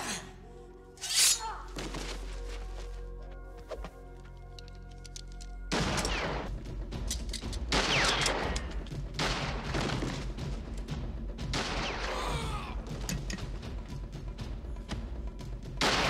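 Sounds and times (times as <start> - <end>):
tense music score: 0.0 - 16.0.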